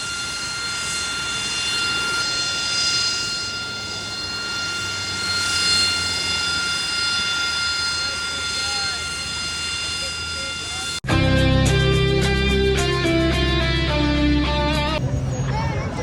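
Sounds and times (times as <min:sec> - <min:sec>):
aircraft engine whine: 0:00.0 - 0:16.0.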